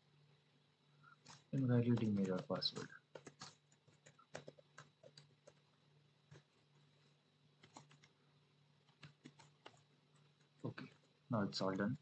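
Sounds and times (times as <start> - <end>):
faint keyboard typing: 0.9 - 12.0.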